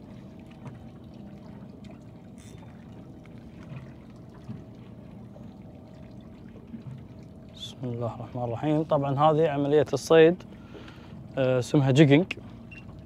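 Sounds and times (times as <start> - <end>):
low steady hum: 0.0 - 13.0
water lapping against hull: 0.0 - 13.0.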